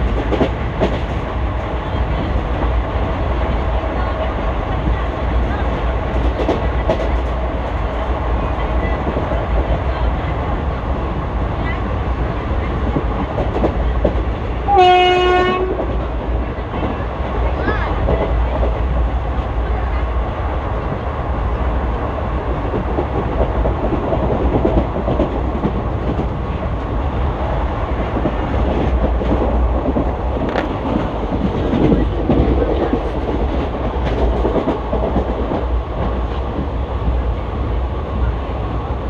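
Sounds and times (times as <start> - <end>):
rumble of wheels on rail: 0.0 - 39.0.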